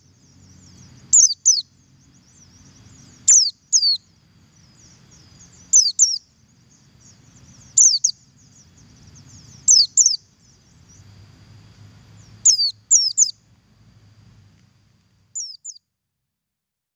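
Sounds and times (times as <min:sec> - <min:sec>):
soft bird twittering: 0:00.0 - 0:13.5, 0:15.3 - 0:15.8.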